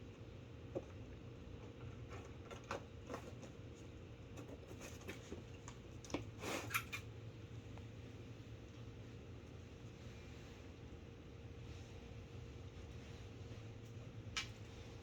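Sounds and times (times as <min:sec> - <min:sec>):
steady low hum: 0:03.0 - 0:15.0.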